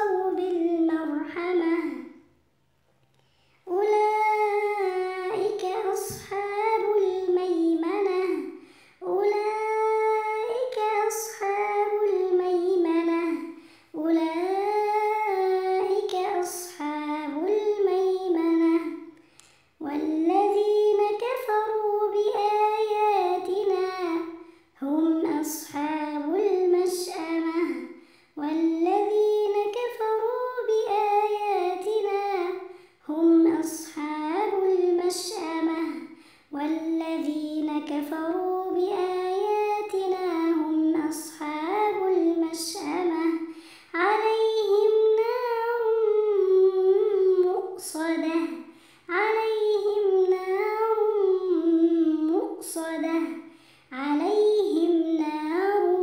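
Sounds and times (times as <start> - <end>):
girl chanting recitation: 0.0 - 2.4, 3.6 - 56.0.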